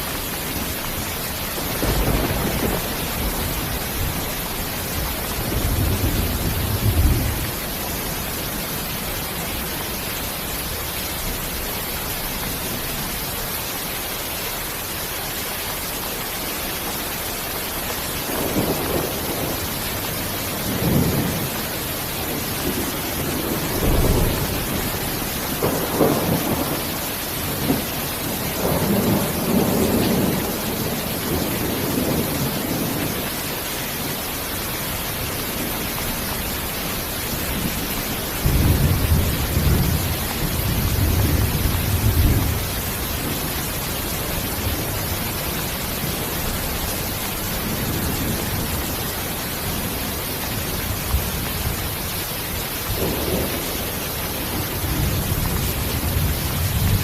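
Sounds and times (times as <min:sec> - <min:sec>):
thunder rumbling: 0:00.0 - 0:12.2, 0:18.2 - 0:33.4, 0:35.1 - 0:57.0
steady rain: 0:00.0 - 0:57.0.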